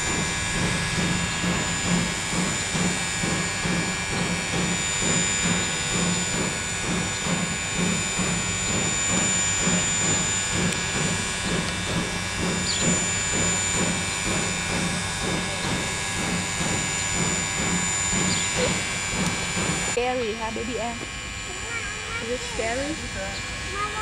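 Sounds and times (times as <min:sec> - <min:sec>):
low pulsing: 0:00.0 - 0:24.0
steam locomotive hissing: 0:00.0 - 0:24.0.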